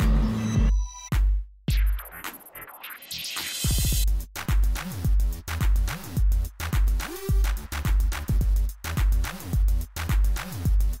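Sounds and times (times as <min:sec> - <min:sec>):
deep bass drum beat: 0:00.0 - 0:02.0, 0:03.7 - 0:11.0
electronic music: 0:00.0 - 0:11.0.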